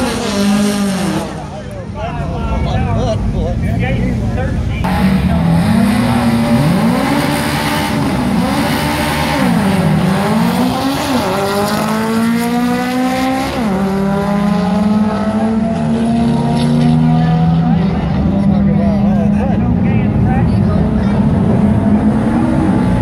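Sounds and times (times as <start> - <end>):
race car engines accelerating: 0.0 - 23.0.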